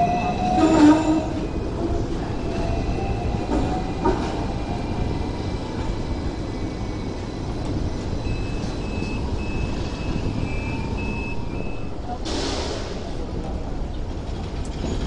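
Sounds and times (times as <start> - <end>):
electric tram rumbling: 0.0 - 15.0.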